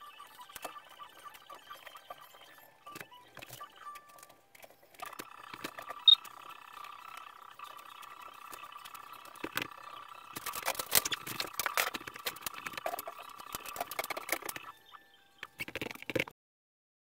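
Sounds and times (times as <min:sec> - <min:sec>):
cables clicking and rattling: 0:00.4 - 0:14.8, 0:15.4 - 0:16.3.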